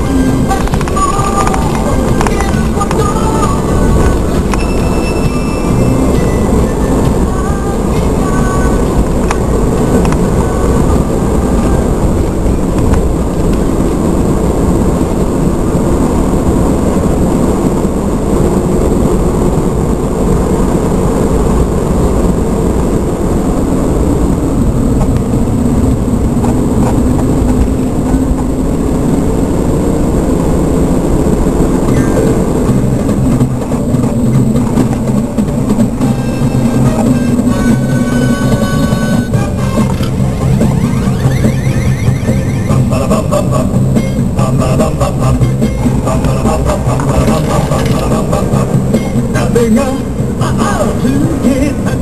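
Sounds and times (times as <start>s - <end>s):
vehicle engine and tyre noise: 0.0s - 52.0s.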